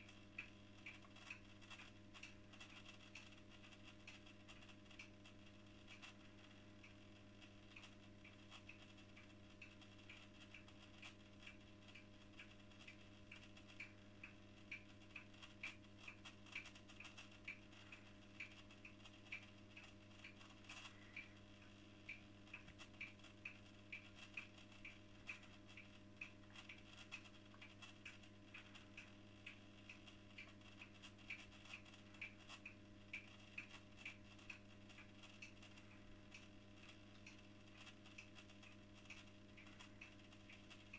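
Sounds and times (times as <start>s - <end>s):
light irregular ticking: 0.0s - 40.9s
washing machine electrical hum: 0.0s - 40.9s.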